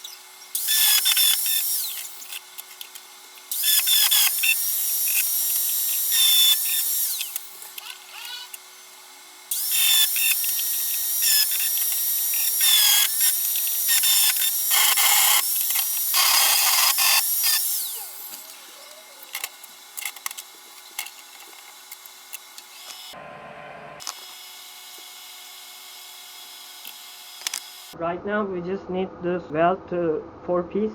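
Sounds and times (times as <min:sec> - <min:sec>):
power tool whining on metal: 0:00.0 - 0:28.0.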